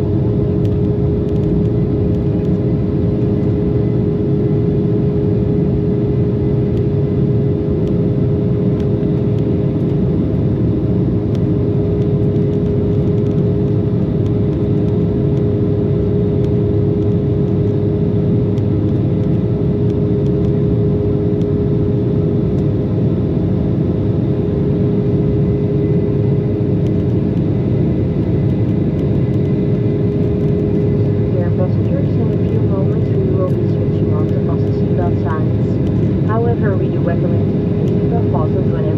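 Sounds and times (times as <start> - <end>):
constant cabin hum: 0.0 - 38.9
jet engines and airflow rushing: 0.0 - 38.9.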